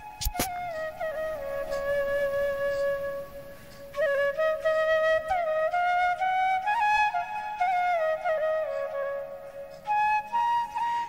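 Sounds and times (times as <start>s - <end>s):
flute playing slow melody: 0.0s - 11.0s.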